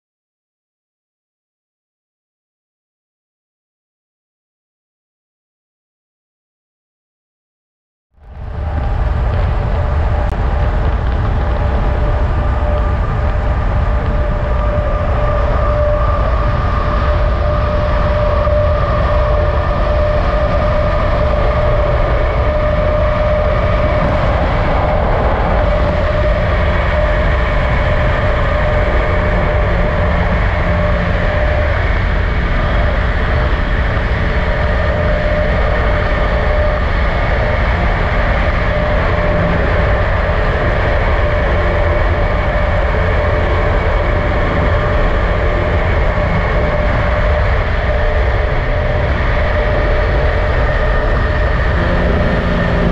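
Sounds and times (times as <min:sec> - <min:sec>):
vehicle running on road: 0:08.2 - 0:52.9.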